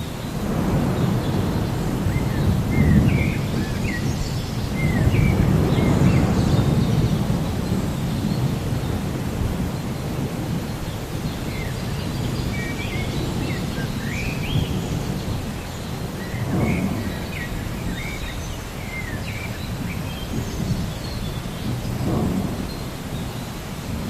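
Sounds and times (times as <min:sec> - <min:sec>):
low thunder rumble: 0:00.0 - 0:24.0
rain: 0:00.0 - 0:24.0
small birds chirping: 0:00.0 - 0:24.0
roll of thunder: 0:00.4 - 0:24.0.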